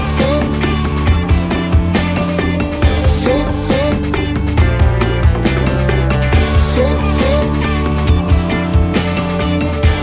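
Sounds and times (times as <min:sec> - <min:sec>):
rock song with steady beat: 0:00.0 - 0:10.0.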